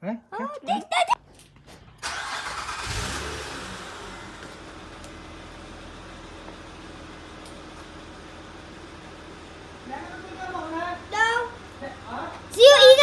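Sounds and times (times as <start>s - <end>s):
car engine starting and idling: 1.3s - 13.0s.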